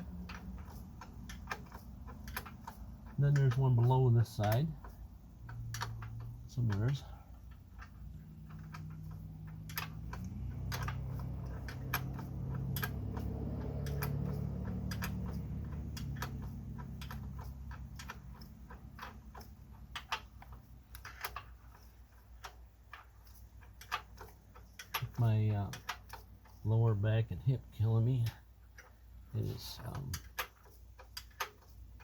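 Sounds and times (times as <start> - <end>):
wrench clicking on bolt: 0.0 - 27.1, 28.0 - 32.0.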